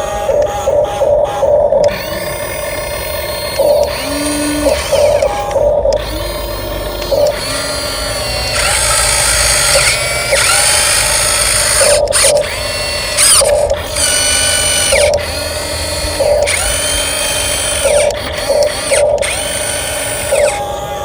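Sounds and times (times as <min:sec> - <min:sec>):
toy truck electric motor whining: 0:00.0 - 0:21.0.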